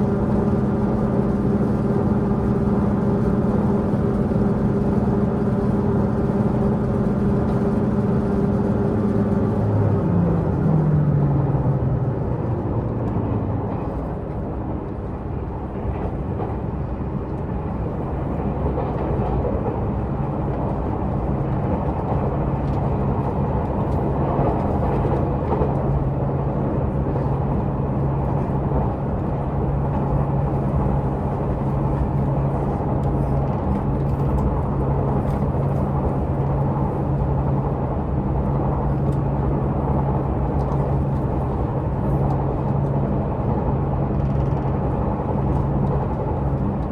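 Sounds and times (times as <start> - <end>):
diesel railcar engine running: 0.0 - 46.9
wheels rumbling on track: 0.0 - 46.9.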